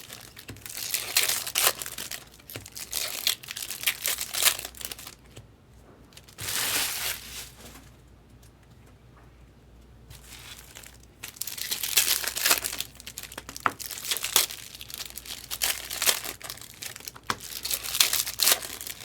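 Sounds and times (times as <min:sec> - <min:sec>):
card pack wrappers crinkling and tearing: 0:00.0 - 0:05.4, 0:06.2 - 0:07.6, 0:10.1 - 0:19.0.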